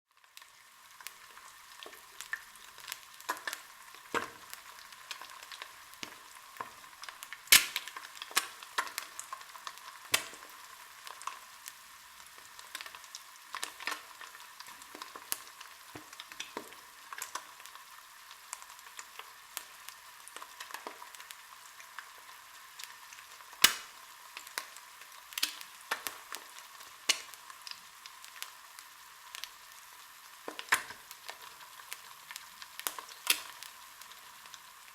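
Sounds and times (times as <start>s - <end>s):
egg sizzling in oil: 0.1s - 34.9s
oil popping and crackling: 0.2s - 34.9s.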